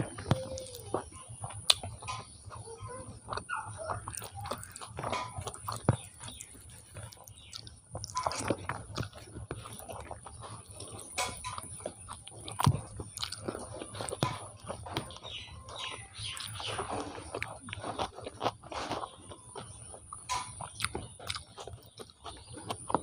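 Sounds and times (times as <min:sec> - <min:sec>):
close chewing: 0:00.0 - 0:23.0
fingers mixing rice on plate: 0:00.0 - 0:23.0.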